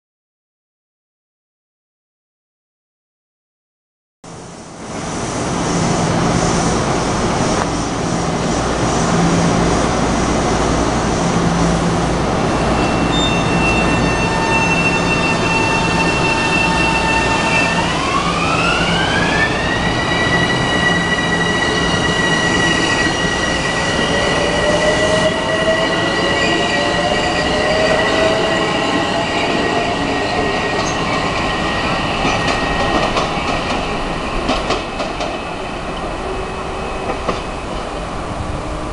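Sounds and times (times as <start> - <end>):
high train whine: 4.3 - 38.9
lower train whine: 4.3 - 38.9
train wheels rumbling on rails: 4.4 - 38.9.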